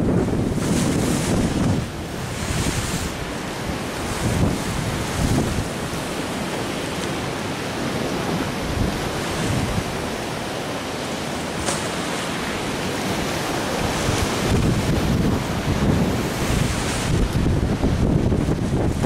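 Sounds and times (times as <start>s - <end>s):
waves breaking: 0.0s - 19.0s
wind gusting on microphone: 0.0s - 19.0s.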